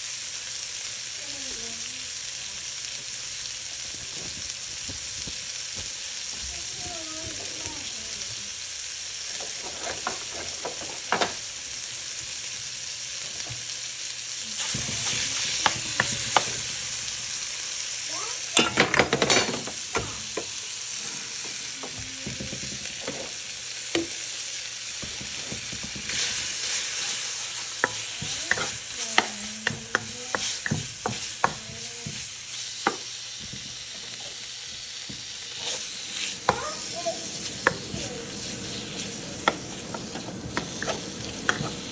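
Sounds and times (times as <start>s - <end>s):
bacon sizzling in a wok: 0.0s - 41.9s.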